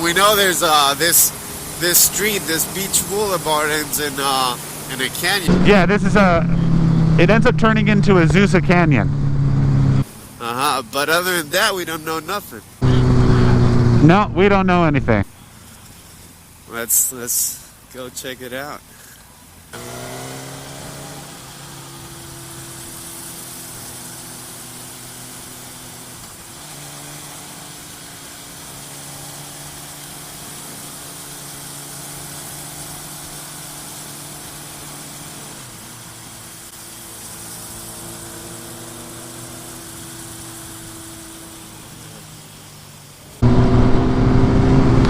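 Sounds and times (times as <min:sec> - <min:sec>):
motorcycle engine running: 0:00.0 - 0:10.0, 0:12.8 - 0:14.3, 0:19.8 - 0:45.0.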